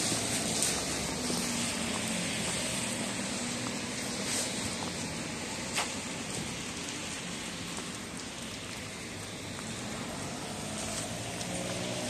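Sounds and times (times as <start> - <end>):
rain falling on paving: 0.0 - 12.0.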